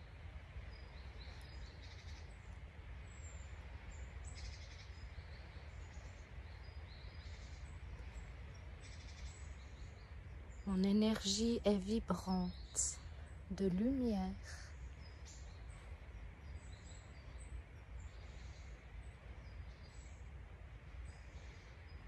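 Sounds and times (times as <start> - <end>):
low outdoor rumble: 0.0 - 22.0
songbirds chirping: 0.0 - 22.0.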